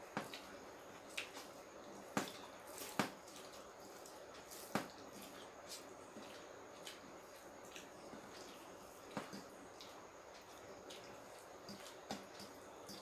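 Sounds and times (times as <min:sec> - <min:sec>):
wet squishing of food: 0:00.0 - 0:13.0.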